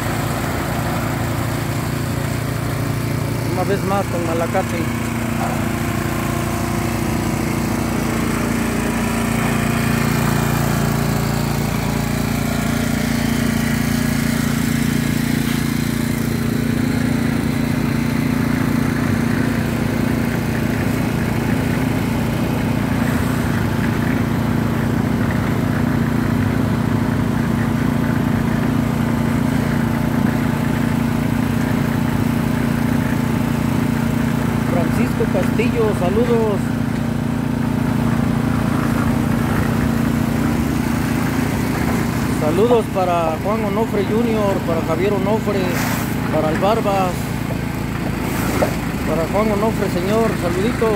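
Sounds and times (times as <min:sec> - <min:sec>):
small gasoline engine running: 0:00.0 - 0:50.9.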